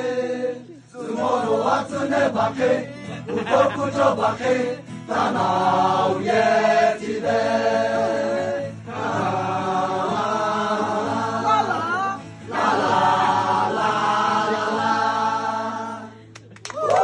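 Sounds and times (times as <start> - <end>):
men singing in chorus: 0.0 - 16.2.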